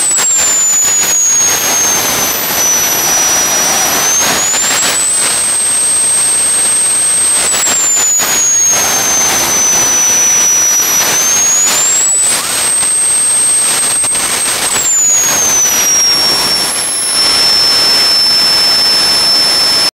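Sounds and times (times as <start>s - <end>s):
jet engine running with whine: 0.0s - 19.9s.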